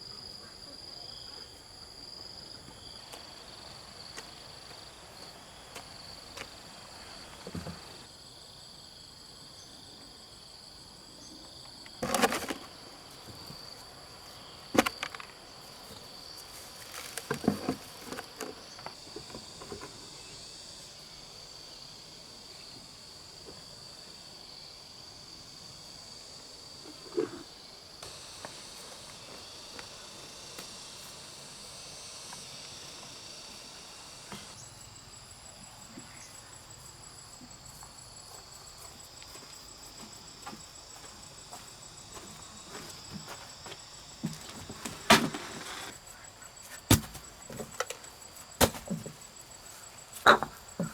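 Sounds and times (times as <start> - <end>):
insects calling: 0.0 - 50.9.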